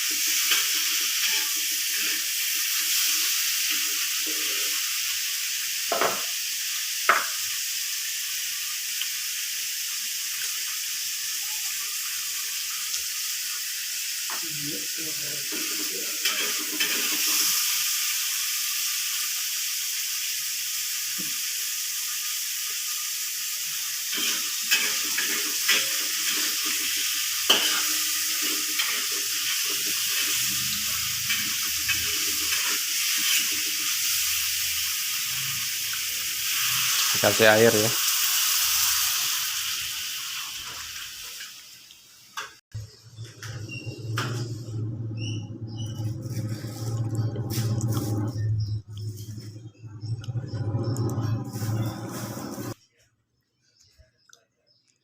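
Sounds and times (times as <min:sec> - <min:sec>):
food sizzling in hot oil: 0:00.0 - 0:52.8.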